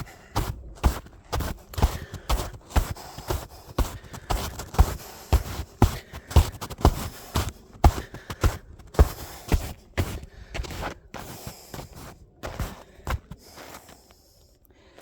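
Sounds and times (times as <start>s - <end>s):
footsteps crunching icy snow: 0.0s - 14.2s.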